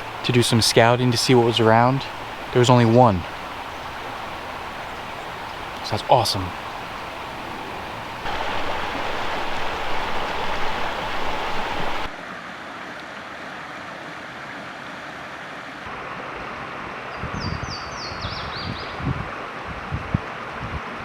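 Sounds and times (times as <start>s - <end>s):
brook water rushing: 0.0s - 17.0s.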